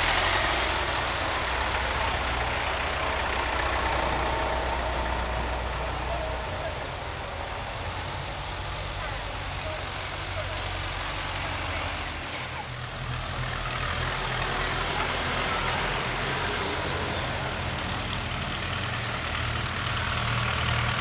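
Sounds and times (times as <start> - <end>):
tractor engines passing by: 0.0 - 21.0.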